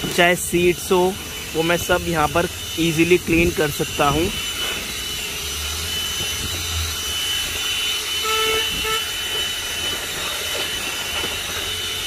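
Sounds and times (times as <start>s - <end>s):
handheld vacuum cleaner whine: 0.0s - 12.0s.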